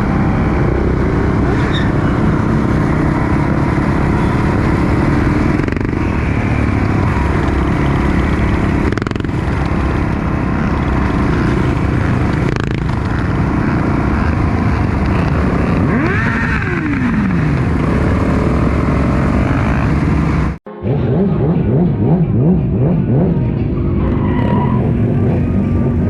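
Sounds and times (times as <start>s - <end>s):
motorcycle engine running: 0.0s - 24.2s.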